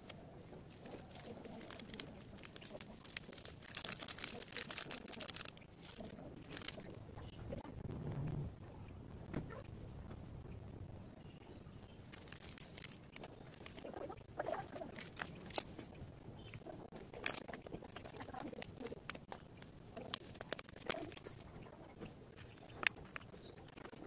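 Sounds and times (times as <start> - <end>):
paper packet crinkling: 0.0 - 7.6, 12.0 - 24.0.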